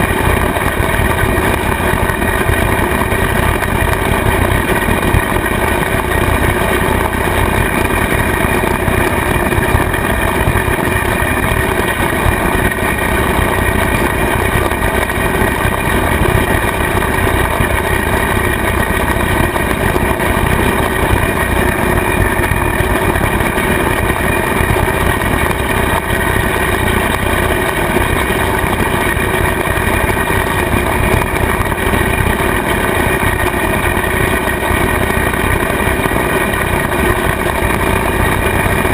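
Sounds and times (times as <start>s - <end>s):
rotary cutter blades spinning: 0.0s - 38.9s
tractor diesel engine running: 0.0s - 38.9s.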